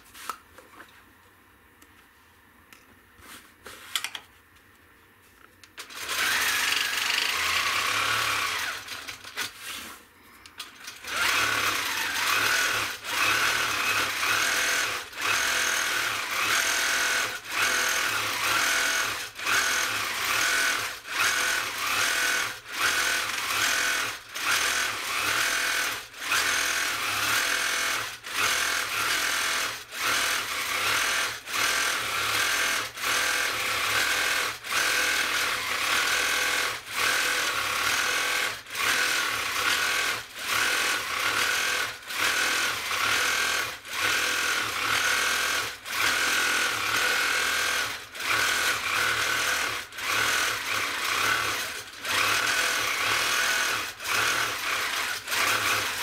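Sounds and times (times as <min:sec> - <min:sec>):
quilting machine stitching: 0:05.8 - 0:09.9, 0:10.6 - 0:56.0.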